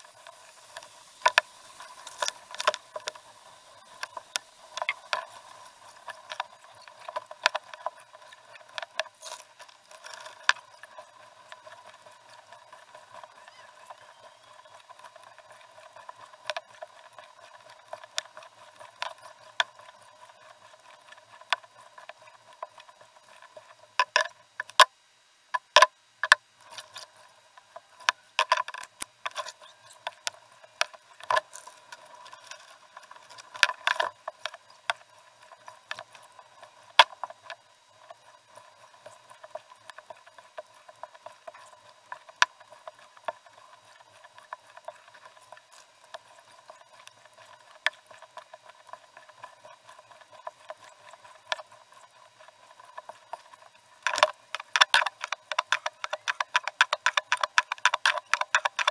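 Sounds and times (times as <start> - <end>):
paddle strokes in water: 0.0 - 24.8, 26.6 - 58.9
steady hiss: 0.0 - 58.9.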